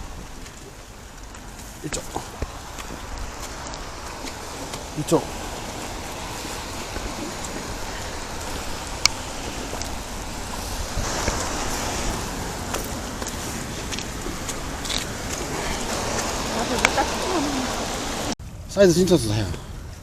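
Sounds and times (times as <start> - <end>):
rain falling: 0.0 - 18.4.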